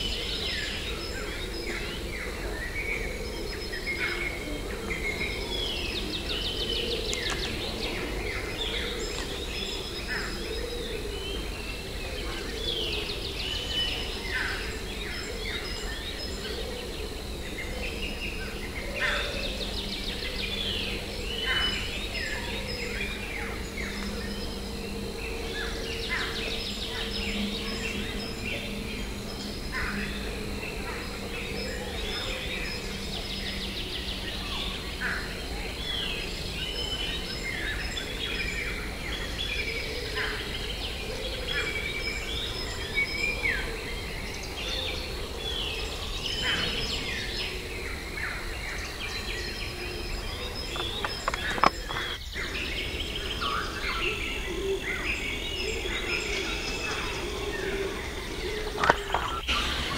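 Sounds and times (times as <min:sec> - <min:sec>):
birds calling in chorus: 0:00.0 - 0:59.9
low steady hum: 0:00.0 - 0:59.9.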